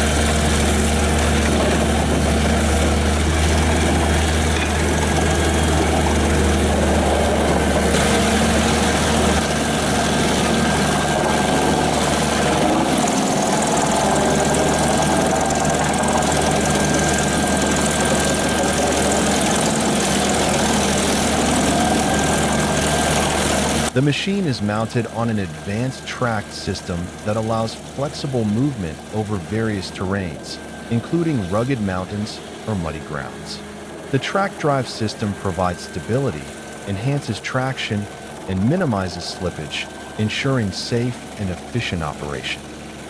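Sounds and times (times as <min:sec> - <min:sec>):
wood chipper running: 0:00.0 - 0:43.0.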